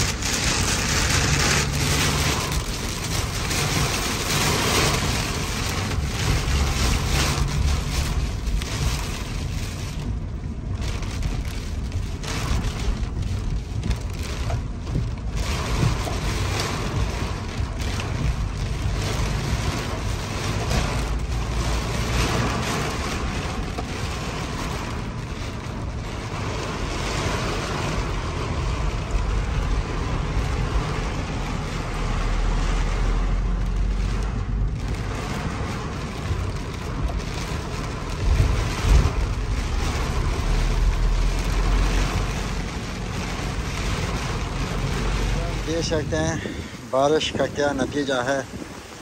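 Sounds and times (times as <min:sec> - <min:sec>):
heavy rain on car roof: 0:00.0 - 0:49.0
wind buffeting car: 0:00.0 - 0:49.0.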